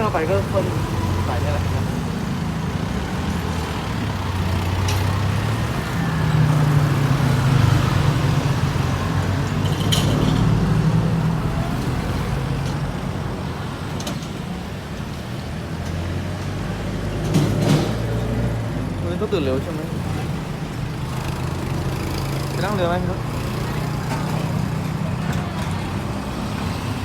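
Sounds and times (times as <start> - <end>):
traffic noise: 0.0 - 27.0
vehicle engine humming: 0.0 - 27.0.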